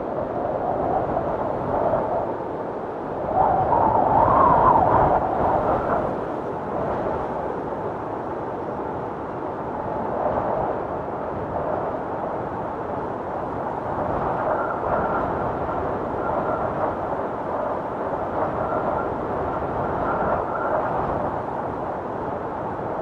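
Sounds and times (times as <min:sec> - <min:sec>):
blizzard wind rushing: 0:00.0 - 0:23.0
faint high wind howl: 0:00.0 - 0:23.0.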